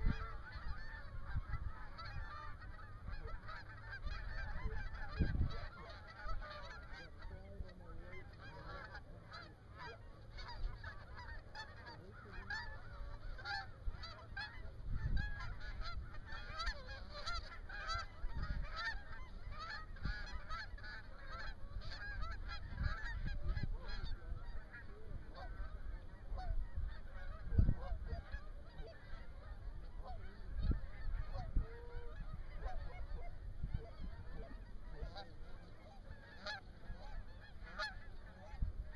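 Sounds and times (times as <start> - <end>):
geese honking: 0.0 - 38.9
wind rumble on microphone: 0.0 - 38.9.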